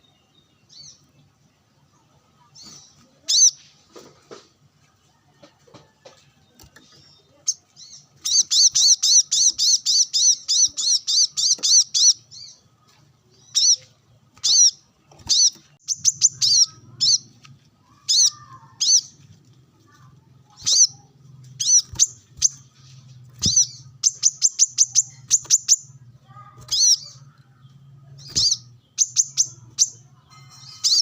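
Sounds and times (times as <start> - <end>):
bird chirping: 0.0 - 4.4, 6.4 - 31.0.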